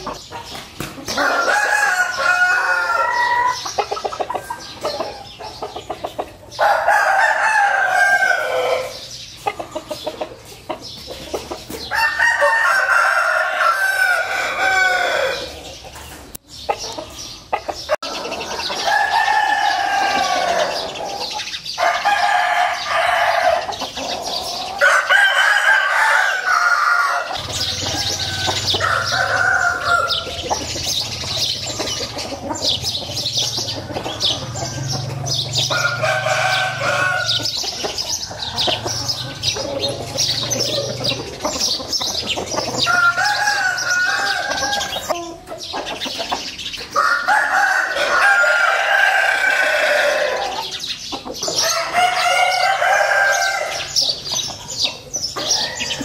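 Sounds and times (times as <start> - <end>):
rooster clucking: 0.0 - 56.0
roosters crowing: 0.0 - 56.0.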